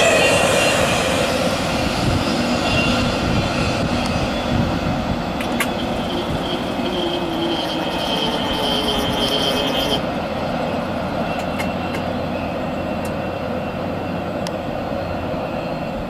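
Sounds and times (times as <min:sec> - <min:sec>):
high wheel squeal: 0:00.0 - 0:16.0
train wheels rumbling on rail: 0:00.0 - 0:16.0.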